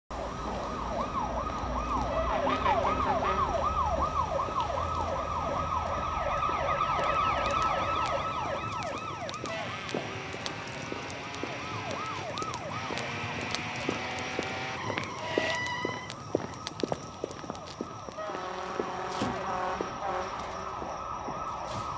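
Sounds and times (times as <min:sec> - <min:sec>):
sirens yelping: 0:00.1 - 0:21.9.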